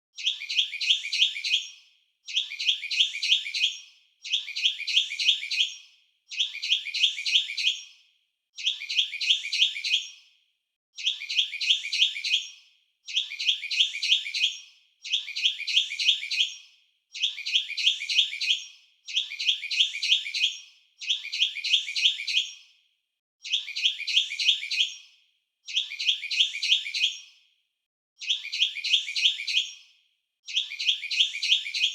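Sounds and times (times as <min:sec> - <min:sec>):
songbird chirping: 0:00.2 - 0:08.0, 0:08.6 - 0:10.2, 0:11.0 - 0:22.7, 0:25.7 - 0:27.3, 0:28.2 - 0:29.9, 0:30.5 - 0:31.9.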